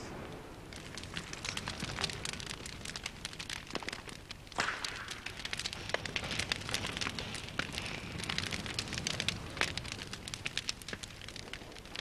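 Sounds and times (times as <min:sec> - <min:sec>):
bonfire crackling and popping: 0:00.0 - 0:12.0
loud wood snap: 0:01.4 - 0:11.5.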